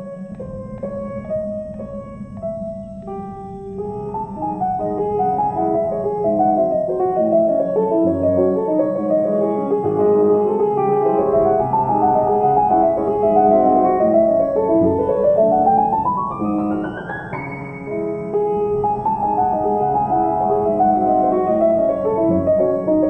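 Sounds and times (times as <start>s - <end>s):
fast piano music: 0.0s - 23.0s.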